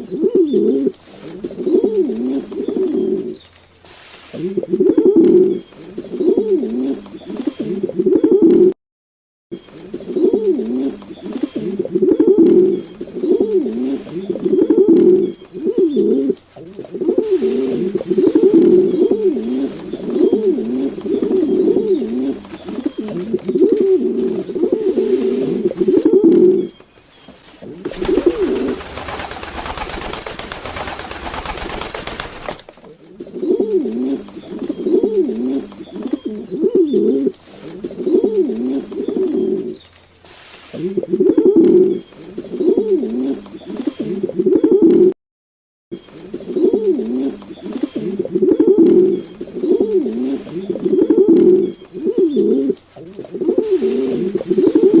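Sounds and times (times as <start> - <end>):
pigeons cooing: 0.0 - 3.4, 4.3 - 8.8, 9.6 - 26.8, 27.6 - 39.8, 40.4 - 45.1, 46.0 - 55.0.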